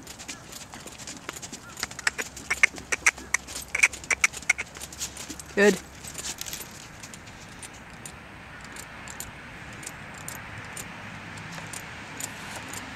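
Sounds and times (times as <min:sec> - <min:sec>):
faint clicks: 0:00.0 - 0:12.9
light jingling: 0:00.0 - 0:12.9
outdoor background noise: 0:00.0 - 0:12.9.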